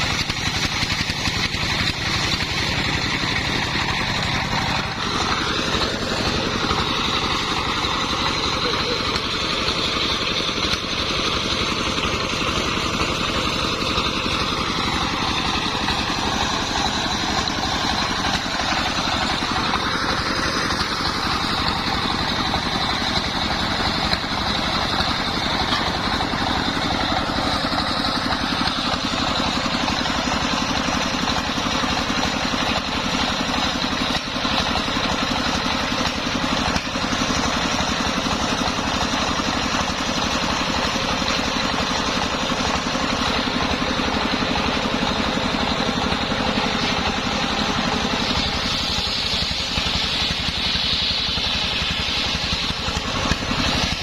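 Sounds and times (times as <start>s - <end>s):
circular sawmill sawing wood: 0.0s - 54.0s.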